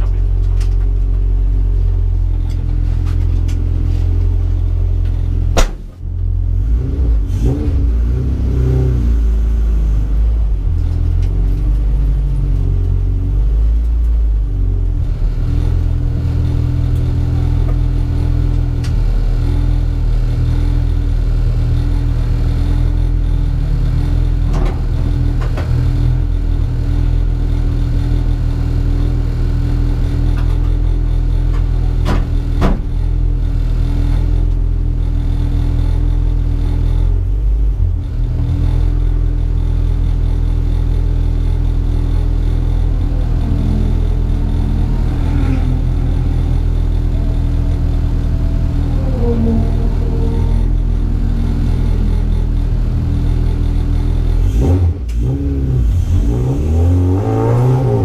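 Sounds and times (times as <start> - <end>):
car engine idling: 0.0 - 56.5.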